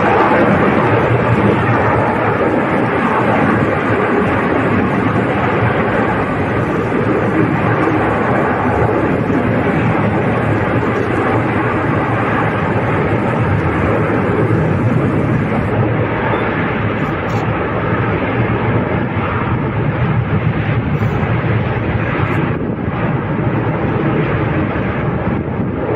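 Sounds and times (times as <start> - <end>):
volcano erupting roar: 0.0 - 25.9.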